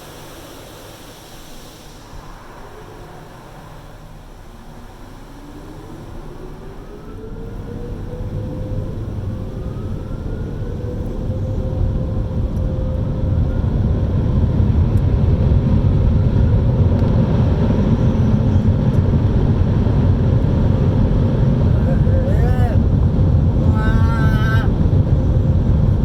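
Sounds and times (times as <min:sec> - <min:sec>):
car wash machinery rumbling: 0:00.0 - 0:26.0.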